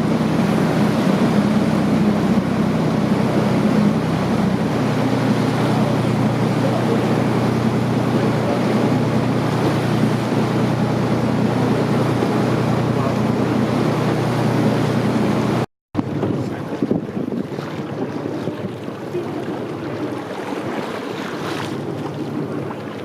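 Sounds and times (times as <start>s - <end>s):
motorboat engine humming: 0.0s - 23.0s
water splashing along hull: 0.0s - 23.0s.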